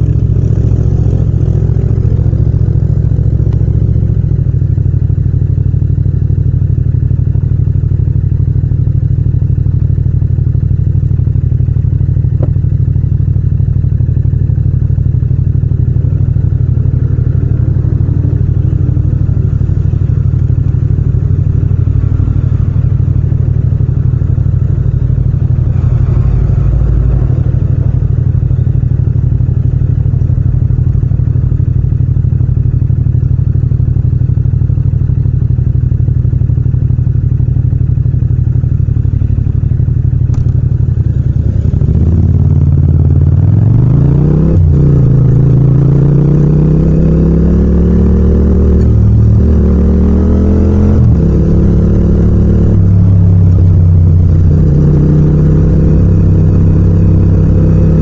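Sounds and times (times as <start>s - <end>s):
motorcycle engine idling: 0.0s - 49.8s, 50.8s - 58.0s.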